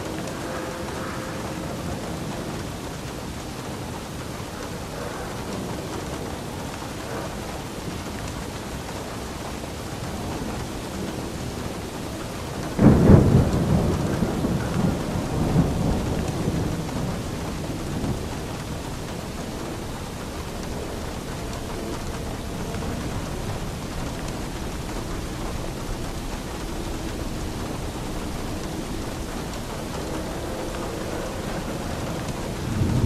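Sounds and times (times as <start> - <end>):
steady rain: 0.0 - 33.0
thunder crack and rumble: 0.0 - 33.0.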